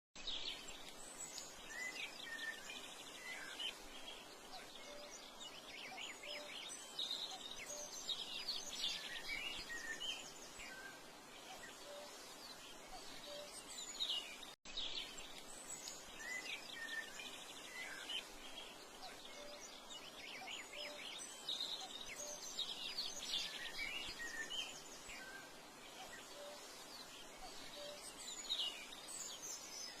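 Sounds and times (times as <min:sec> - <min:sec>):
background hiss: 0:00.2 - 0:30.0
small birds chirping: 0:00.2 - 0:30.0.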